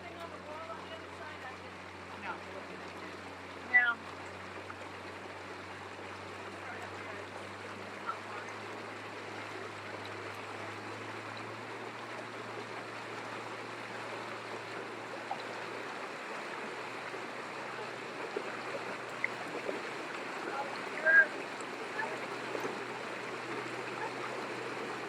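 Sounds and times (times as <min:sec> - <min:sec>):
low motor hum: 0:00.0 - 0:25.0
water rushing around boat: 0:00.0 - 0:25.0.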